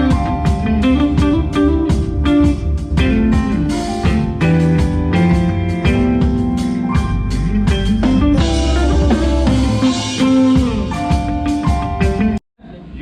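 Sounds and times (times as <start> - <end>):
drum hits: 0.0 - 12.4
gliding bass notes: 0.0 - 12.4
live band playing: 0.0 - 12.4.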